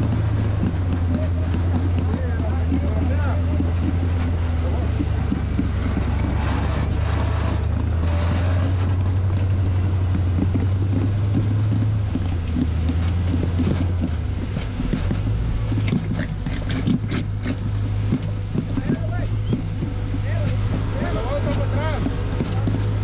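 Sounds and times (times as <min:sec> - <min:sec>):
engine running under load: 0:00.0 - 0:23.0
sharp clicks and knocks: 0:00.0 - 0:23.0.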